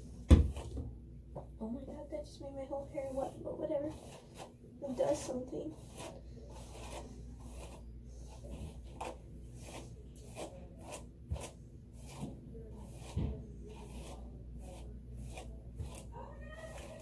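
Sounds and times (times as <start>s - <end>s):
low steady hum: 0.0s - 17.0s
hairbrush rasping through hair: 2.8s - 17.0s.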